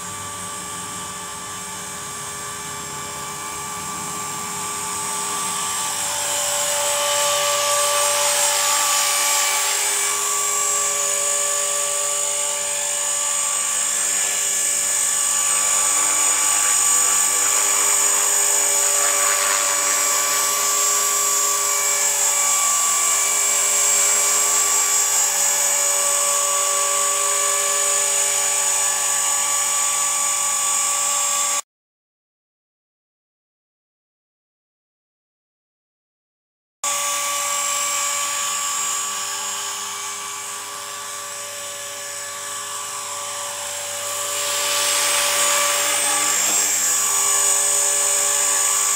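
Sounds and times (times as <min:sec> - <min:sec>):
rc helicopter motor whine: 0:00.0 - 0:31.6, 0:36.9 - 0:48.9.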